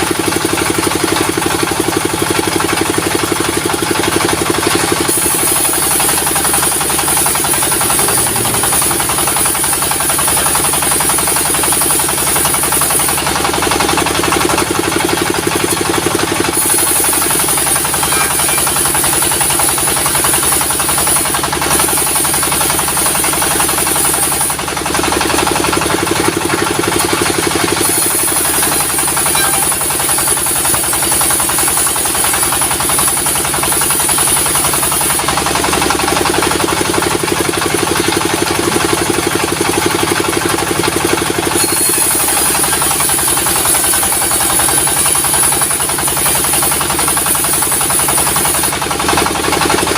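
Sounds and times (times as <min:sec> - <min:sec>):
sawmill machinery chugging: 0:00.0 - 0:49.9.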